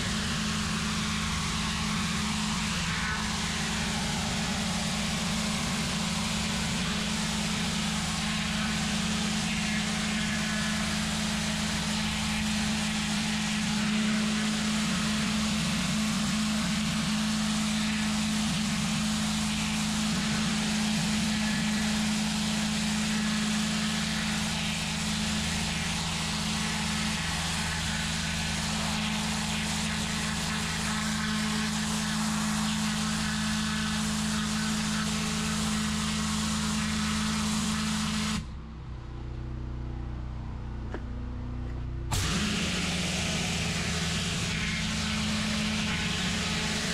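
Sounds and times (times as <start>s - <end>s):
pressure washer hum: 0.0s - 38.5s, 42.1s - 46.9s.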